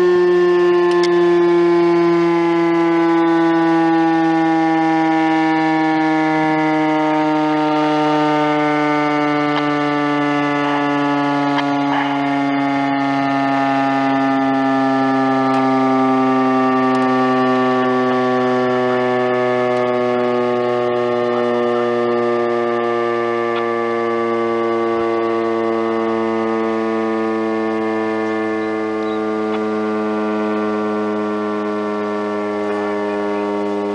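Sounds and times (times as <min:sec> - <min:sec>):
warning siren winding down: 0:00.0 - 0:33.9.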